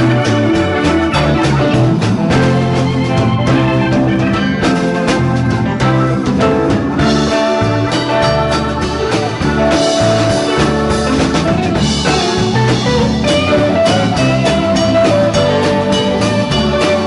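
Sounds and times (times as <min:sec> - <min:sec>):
bass guitar: 0:00.0 - 0:17.0
drum kit: 0:00.0 - 0:17.0
electric guitar lead lines: 0:00.0 - 0:17.0.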